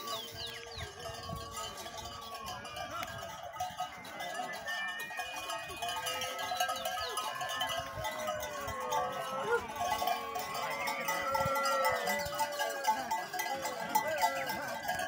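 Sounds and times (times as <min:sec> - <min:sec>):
cattle bells clanking: 0:00.0 - 0:15.0.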